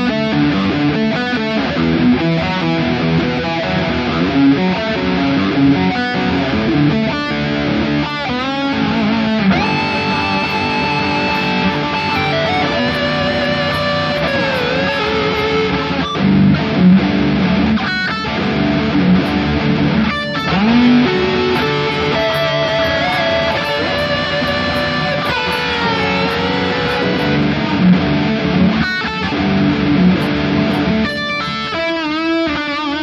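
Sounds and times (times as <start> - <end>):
electric guitars playing: 0.0 - 33.0.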